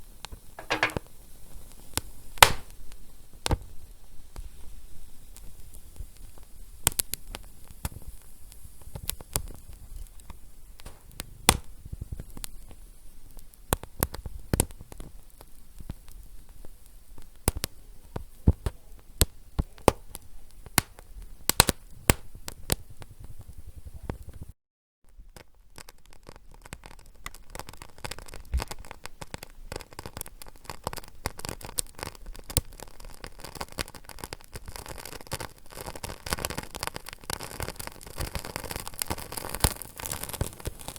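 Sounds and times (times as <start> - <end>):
low steady hiss of fire: 0.0 - 40.9
wood fire crackling and popping: 0.2 - 24.5, 25.2 - 40.9.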